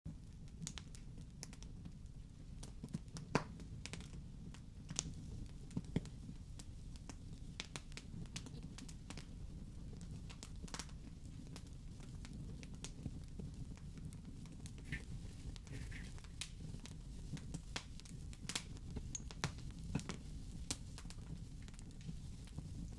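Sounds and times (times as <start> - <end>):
wood fire crackling and popping: 0.1 - 22.9.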